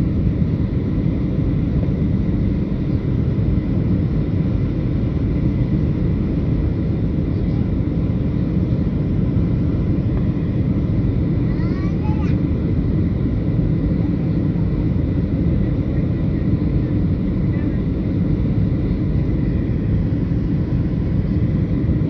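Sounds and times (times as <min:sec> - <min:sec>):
jet aircraft roar: 0:00.0 - 0:22.0.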